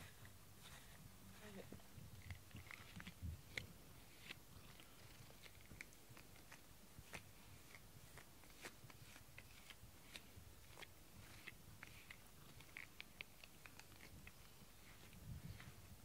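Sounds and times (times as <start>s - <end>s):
cat chewing rubber brush: 1.9s - 16.0s.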